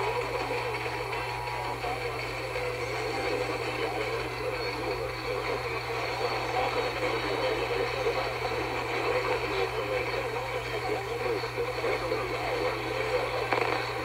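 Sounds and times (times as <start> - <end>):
muffled announcer voice: 0.0 - 14.0
radio hum and static: 0.0 - 14.0.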